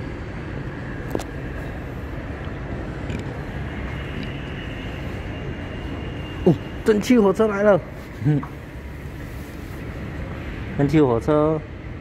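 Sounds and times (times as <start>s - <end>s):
low rumbling hall noise: 0.0s - 12.0s.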